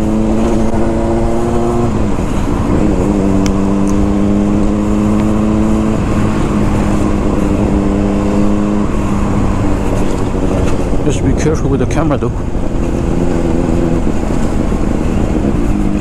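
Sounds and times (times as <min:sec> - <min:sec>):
motorcycle engine cruising: 0:00.0 - 0:16.0
wind rumble on microphone: 0:00.0 - 0:16.0.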